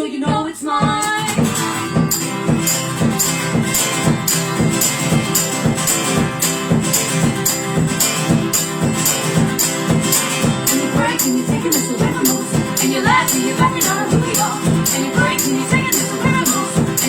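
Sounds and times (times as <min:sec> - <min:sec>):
guitar strumming: 0:00.9 - 0:17.0.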